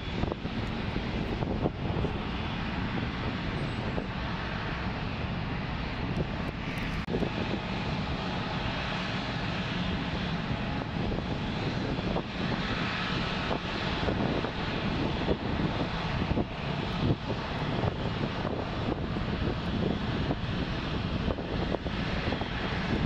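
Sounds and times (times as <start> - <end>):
steady jet engine roar: 0.0 - 23.0.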